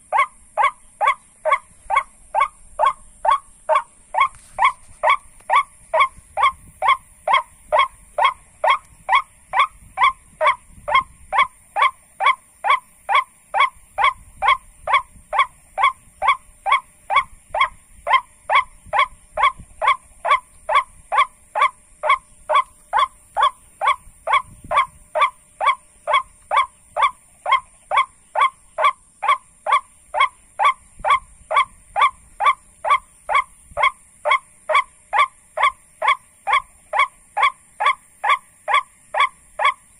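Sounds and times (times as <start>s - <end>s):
steady high hiss: 0.0s - 39.9s
waterhen call: 0.0s - 39.9s.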